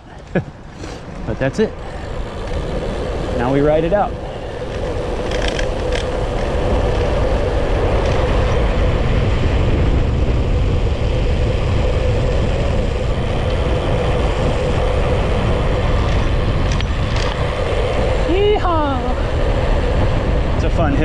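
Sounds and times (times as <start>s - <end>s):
bicycle tyre noise on asphalt: 0.0s - 21.0s
steady hum: 0.0s - 21.0s
wind rushing over microphone: 0.0s - 21.0s.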